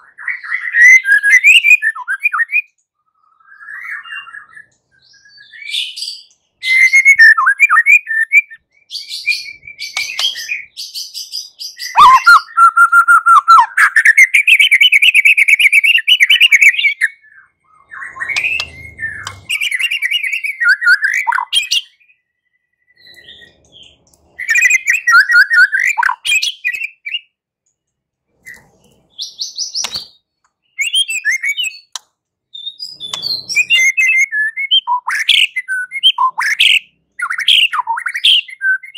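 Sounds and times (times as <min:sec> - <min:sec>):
bird singing whistled phrases: 0:00.0 - 0:27.4, 0:28.4 - 0:38.9.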